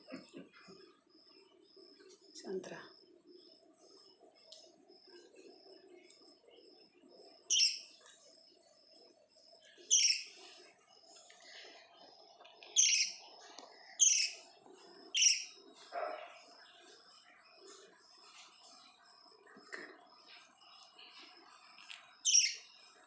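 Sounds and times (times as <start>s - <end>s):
faint low murmur: 0.0s - 22.2s.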